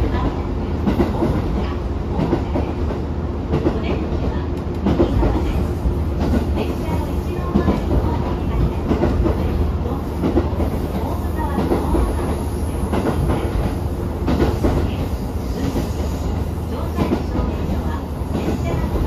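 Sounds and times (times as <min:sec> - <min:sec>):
railcar engine and wheels rumbling: 0:00.0 - 0:19.0.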